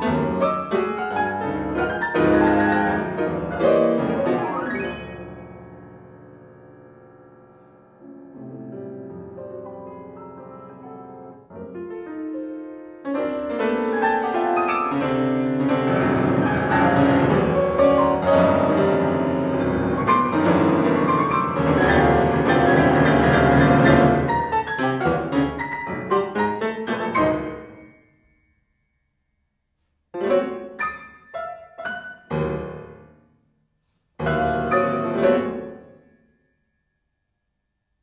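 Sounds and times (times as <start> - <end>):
grand piano four-hands: 0.0 - 28.5, 30.2 - 33.3, 34.2 - 36.4.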